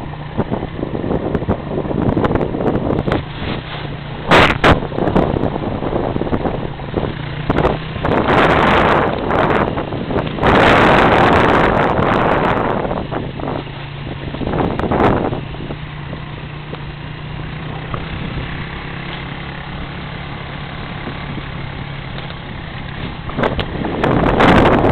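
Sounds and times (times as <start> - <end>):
boat motor running: 0.0 - 24.9
wind on microphone: 0.0 - 24.9.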